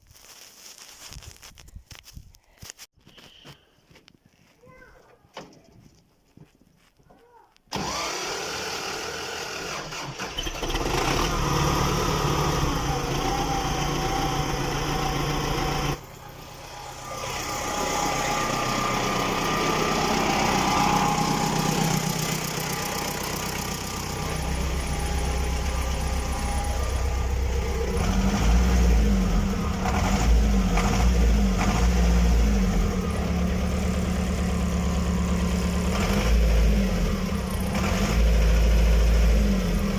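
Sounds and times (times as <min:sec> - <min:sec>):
vehicle engine cold-starting: 0:07.7 - 0:39.9.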